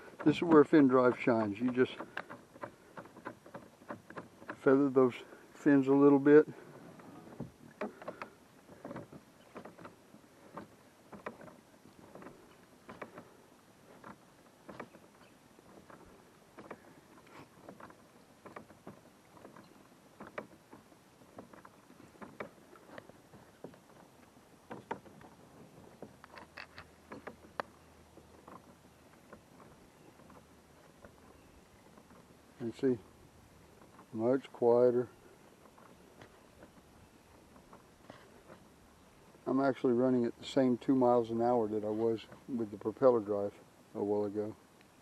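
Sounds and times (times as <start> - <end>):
pedal drive clicking: 0.0 - 43.0.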